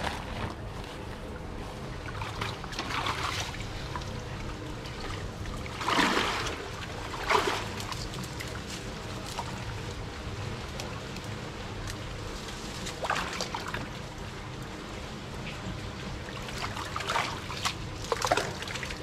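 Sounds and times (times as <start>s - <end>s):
steady low rumble: 0.0s - 19.0s
water splashing and sloshing: 0.0s - 19.0s.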